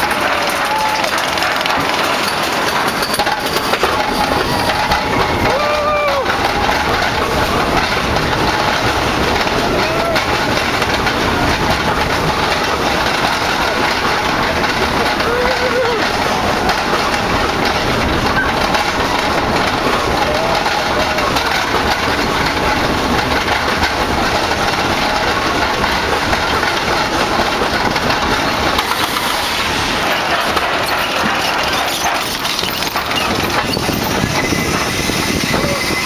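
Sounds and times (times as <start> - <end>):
roller coaster rushing on track: 0.0 - 36.0.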